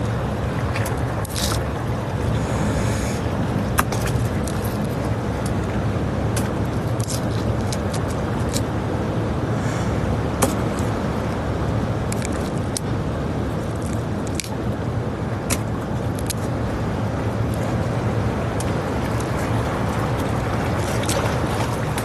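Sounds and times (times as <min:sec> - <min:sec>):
strong sea wind: 0:00.0 - 0:22.0
surf rumbling on rocks: 0:00.0 - 0:22.0
wind buffeting microphone: 0:00.0 - 0:22.0.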